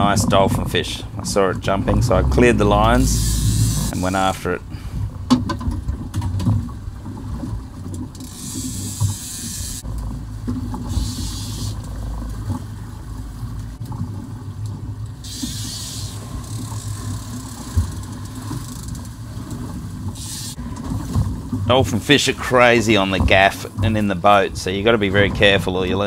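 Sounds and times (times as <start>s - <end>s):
boat engine running: 0.0s - 26.0s
hissing wind and water: 0.0s - 26.0s.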